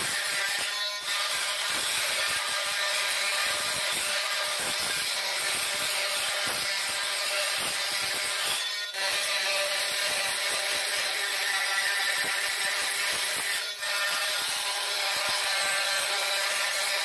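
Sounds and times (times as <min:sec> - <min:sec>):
multi-tool grinding grout: 0:00.0 - 0:17.0.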